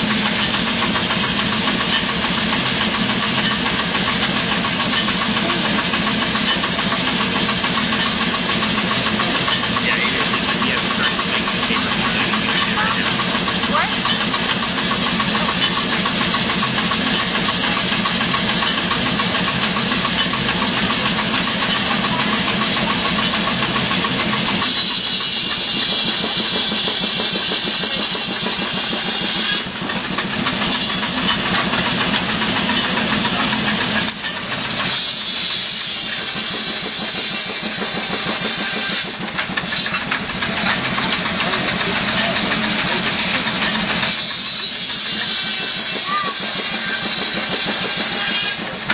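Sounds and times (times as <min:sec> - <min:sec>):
saw cutting wood: 0:00.0 - 0:48.9
saw engine running: 0:00.0 - 0:48.9.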